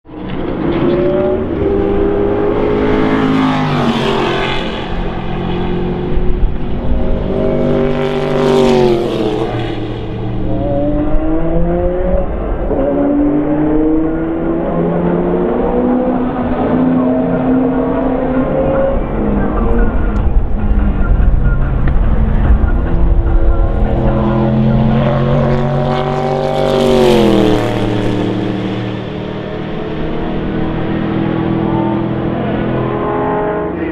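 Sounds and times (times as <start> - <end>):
racing car engine passing by: 0.2 - 33.9.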